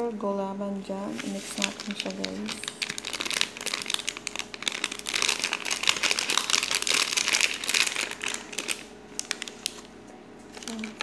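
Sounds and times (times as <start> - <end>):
powder packet crinkling: 1.2 - 11.0.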